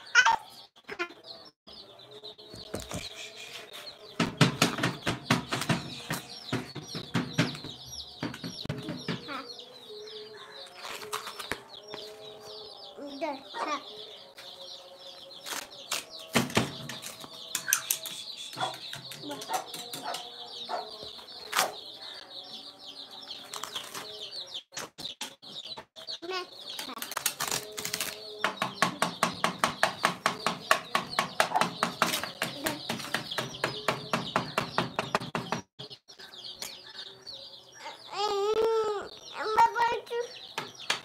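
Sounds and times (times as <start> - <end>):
chickens peeping: 0.0 - 41.0.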